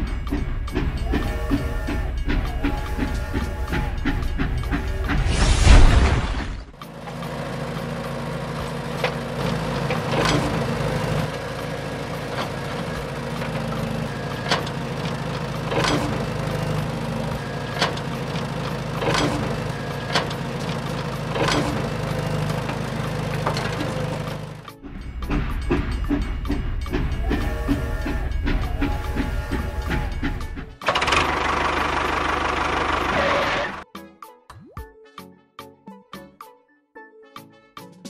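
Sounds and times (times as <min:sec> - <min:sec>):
toy electric motors humming: 0:00.0 - 0:05.3, 0:06.8 - 0:33.8.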